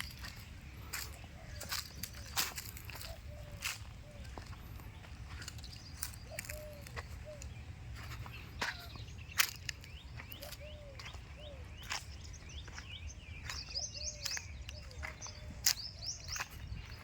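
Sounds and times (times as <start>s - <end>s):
birds chirping: 0.0s - 17.0s
softer lower bird calls: 0.0s - 17.0s.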